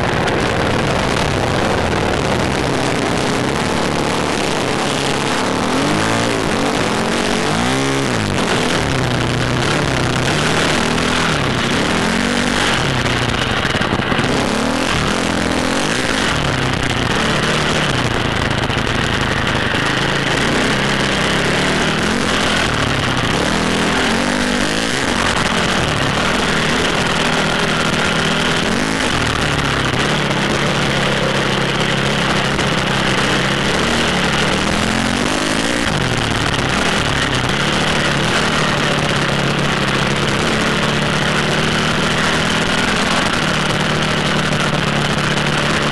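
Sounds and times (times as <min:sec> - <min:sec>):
constant rushing noise: 0:00.0 - 0:45.9
dirt bike engine revving: 0:00.0 - 0:45.9.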